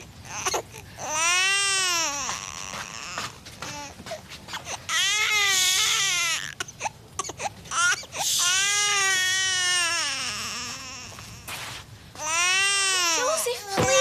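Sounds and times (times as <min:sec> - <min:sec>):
baby crying: 0:00.2 - 0:11.6, 0:12.2 - 0:14.0.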